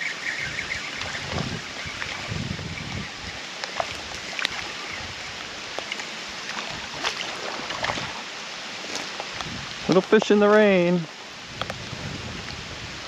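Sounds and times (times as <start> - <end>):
rain falling on water: 0.0 - 13.0.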